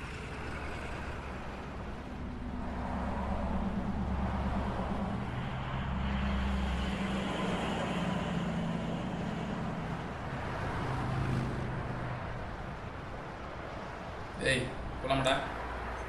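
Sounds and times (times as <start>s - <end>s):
road traffic engines humming: 0.0s - 16.0s.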